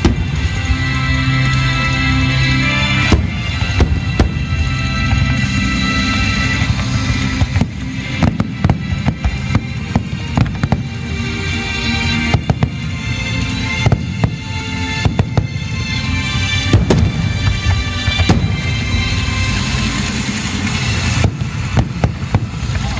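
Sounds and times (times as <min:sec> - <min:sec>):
fireworks bangs and cracks: 0:00.0 - 0:22.9
music: 0:00.0 - 0:22.9.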